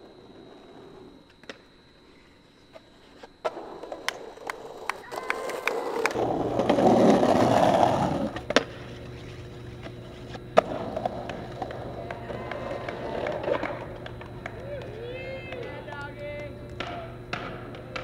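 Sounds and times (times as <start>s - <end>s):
skateboard clacks: 0.0s - 18.0s
skateboard wheels rolling on concrete: 0.0s - 18.0s.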